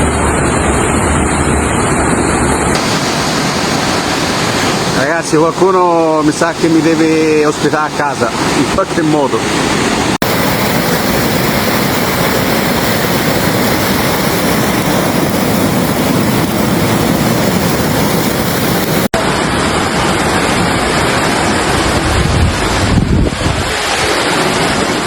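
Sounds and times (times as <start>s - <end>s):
floodwater rushing roar: 0.0s - 25.0s.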